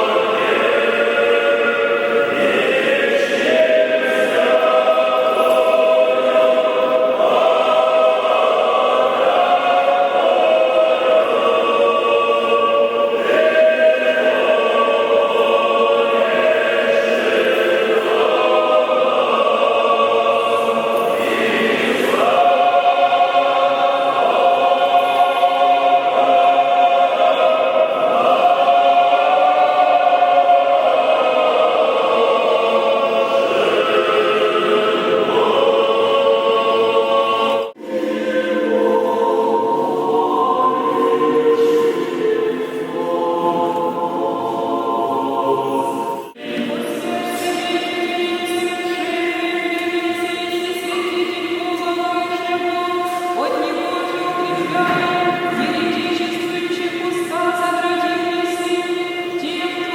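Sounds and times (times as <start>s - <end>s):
choir chanting: 0.0s - 59.9s.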